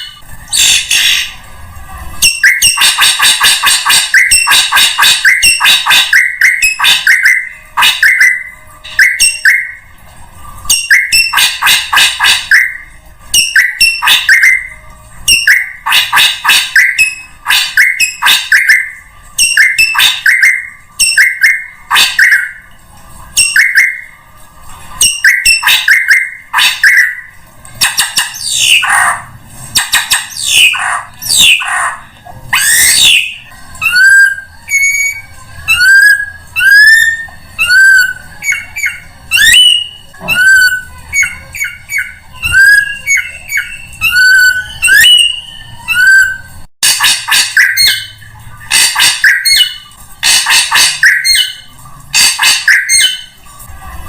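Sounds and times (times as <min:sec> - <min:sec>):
harsh chattering bird calls: 0:00.0 - 0:01.4, 0:02.2 - 0:09.8, 0:10.7 - 0:22.7, 0:23.4 - 0:24.2, 0:25.0 - 0:53.4
swooping whistled bird notes: 0:02.2 - 0:09.9, 0:10.7 - 0:22.7, 0:23.4 - 0:24.2, 0:25.0 - 0:53.4.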